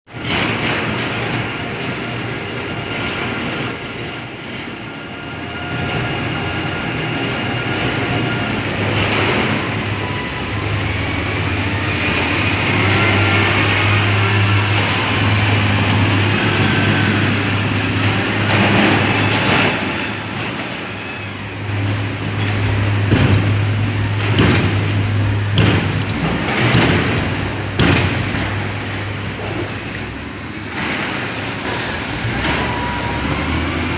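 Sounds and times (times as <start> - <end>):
diesel engine running: 0.2 - 33.9.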